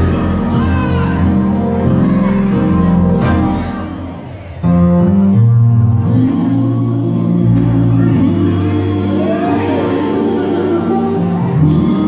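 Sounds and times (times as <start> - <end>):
live band with guitar: 0.0 - 12.0.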